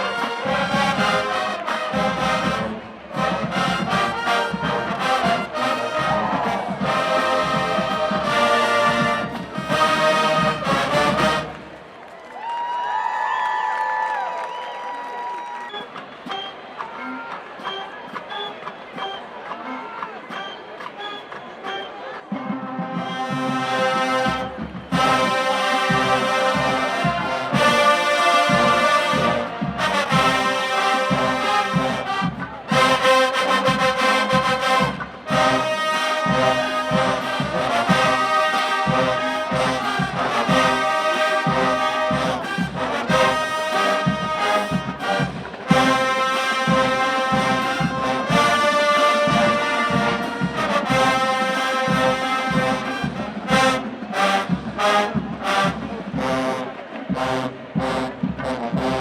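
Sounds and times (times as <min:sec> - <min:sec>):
trombones and trumpets chords: 0:00.0 - 0:11.8, 0:21.6 - 0:59.0
marching band playing: 0:00.0 - 0:12.0, 0:15.7 - 0:59.0.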